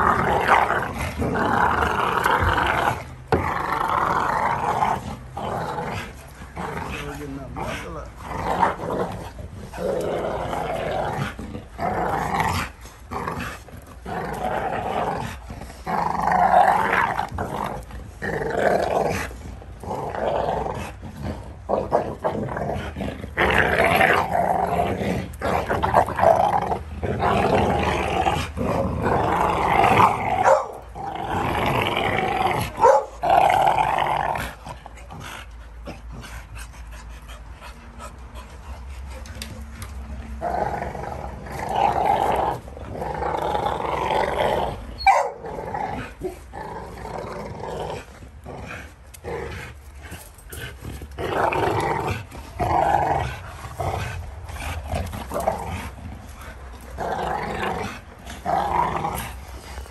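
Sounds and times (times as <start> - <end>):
dogs growling while wrestling: 0.0 - 59.9.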